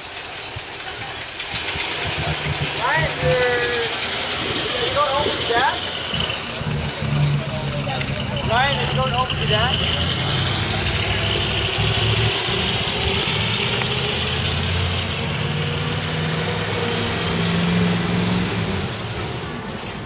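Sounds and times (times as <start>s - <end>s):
bus engine pulling away: 0.0s - 20.0s.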